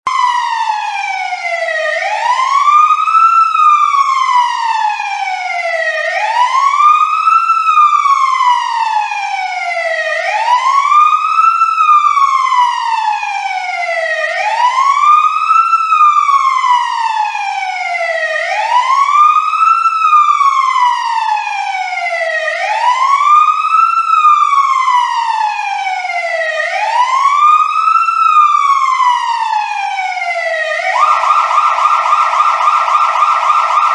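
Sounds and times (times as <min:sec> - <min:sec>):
wail siren: 0:00.1 - 0:33.9.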